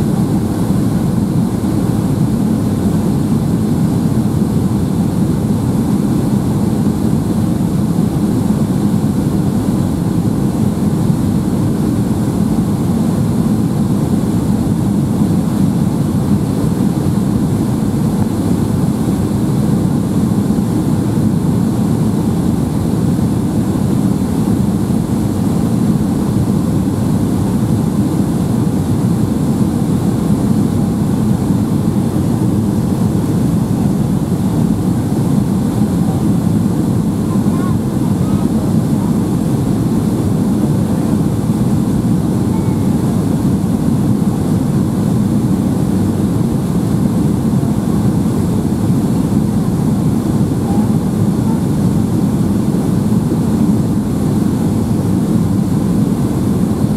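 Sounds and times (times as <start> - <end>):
aircraft cabin engine drone: 0.0 - 56.9.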